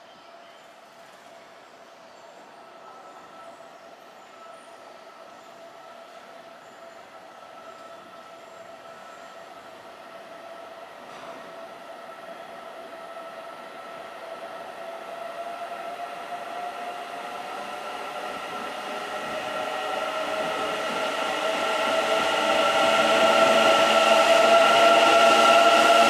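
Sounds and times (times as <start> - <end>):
train running noise: 0.0 - 26.0.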